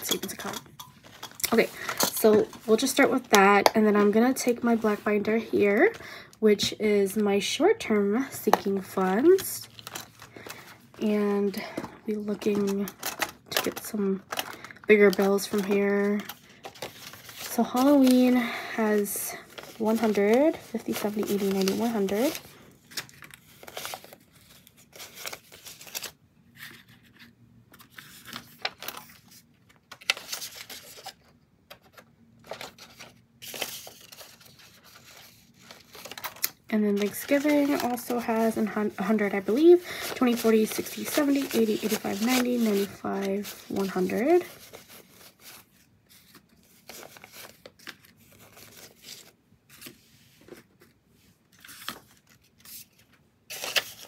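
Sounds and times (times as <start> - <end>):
banknotes and plastic envelopes rustling: 0.0 - 54.0.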